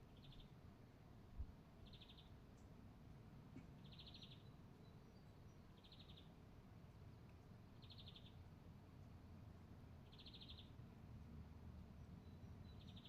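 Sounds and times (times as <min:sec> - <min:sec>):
faint low outdoor rumble: 0:00.0 - 0:13.0.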